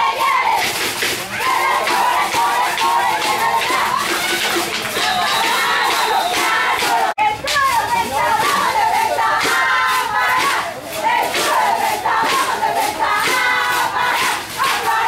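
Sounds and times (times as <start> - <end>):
young voices shouting and chanting: 0.0 - 15.0.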